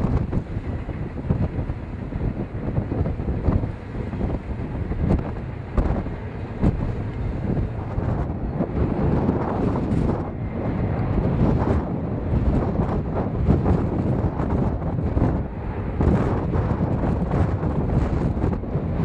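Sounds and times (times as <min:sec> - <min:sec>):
steady low rumble: 0:00.0 - 0:19.0
wind buffeting microphone: 0:00.0 - 0:19.0.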